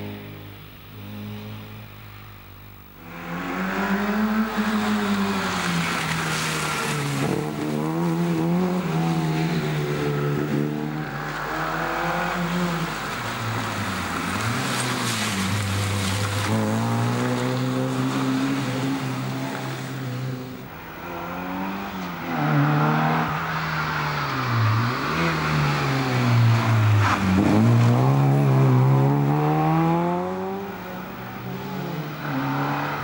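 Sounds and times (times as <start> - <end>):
rally cars revving hard: 3.0 - 33.0.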